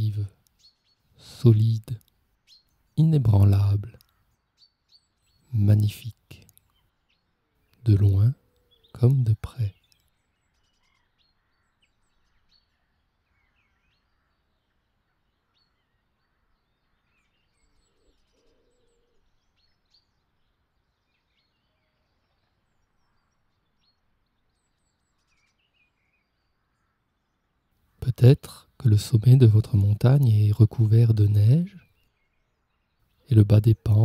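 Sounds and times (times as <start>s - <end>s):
faint birds chirping: 0.0s - 34.0s.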